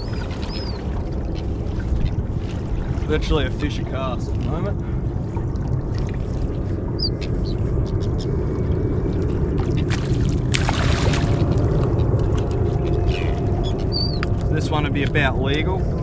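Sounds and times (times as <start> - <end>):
water splashing: 0.0 - 15.8
water around a boat: 0.0 - 16.0
wind rumble on microphone: 0.0 - 16.0.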